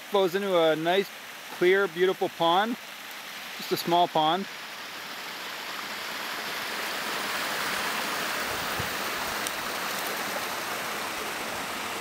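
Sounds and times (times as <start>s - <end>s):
stream running into a pond: 0.0s - 12.0s.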